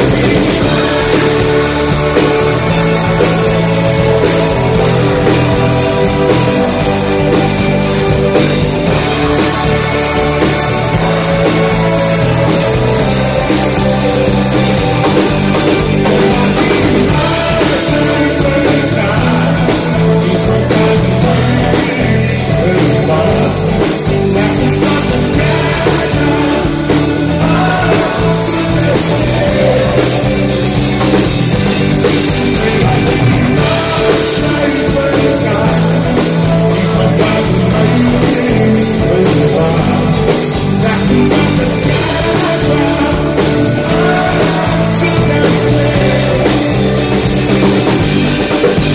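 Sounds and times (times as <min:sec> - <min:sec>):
live rock band playing: 0:00.0 - 0:48.9
man singing: 0:00.0 - 0:48.9.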